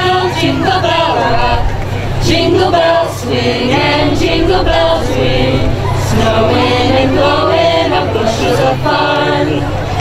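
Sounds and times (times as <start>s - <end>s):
choir singing a carol: 0.0s - 10.0s
steady low hum: 0.0s - 10.0s.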